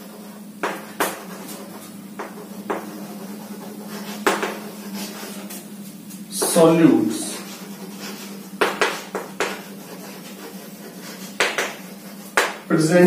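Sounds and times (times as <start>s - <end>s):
chalk tapping and scratching on board: 0.0s - 5.6s, 6.4s - 6.6s, 7.2s - 12.7s
steady low hum: 0.0s - 13.0s.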